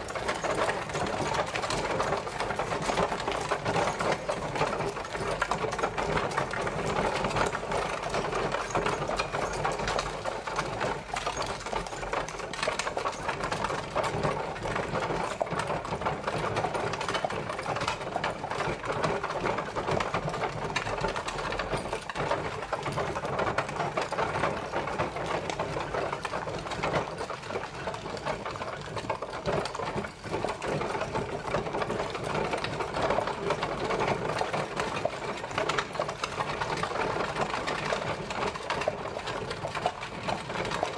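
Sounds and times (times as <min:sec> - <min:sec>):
carriage rattling and clattering: 0:00.0 - 0:40.9.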